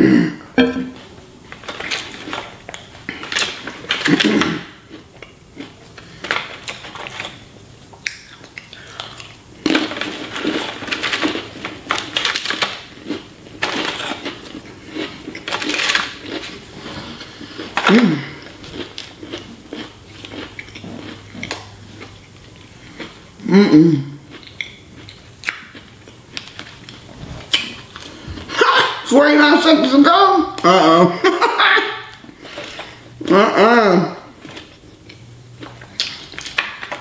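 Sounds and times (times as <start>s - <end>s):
crackers and cookies crunching: 1.4s - 23.5s, 24.1s - 29.1s, 31.6s - 33.6s, 34.2s - 37.0s.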